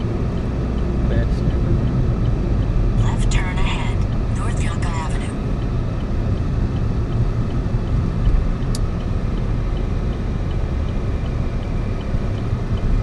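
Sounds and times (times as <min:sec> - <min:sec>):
car engine and tyre hum: 0:00.0 - 0:13.0.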